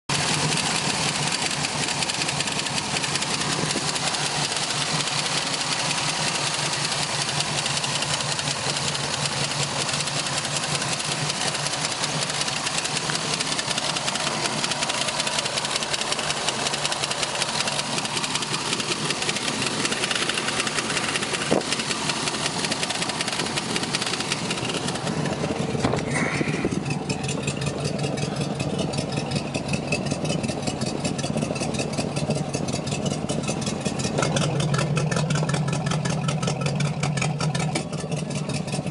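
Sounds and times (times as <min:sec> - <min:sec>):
boat engine idling: 0:00.1 - 0:38.9.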